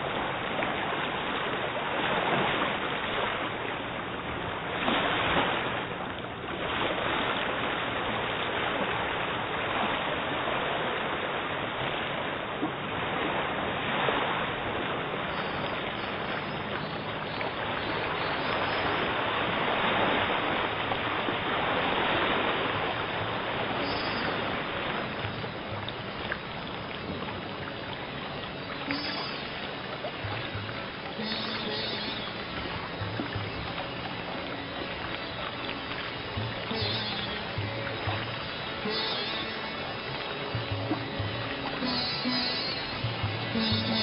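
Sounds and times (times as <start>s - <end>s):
shallow water rushing: 0.0s - 44.0s.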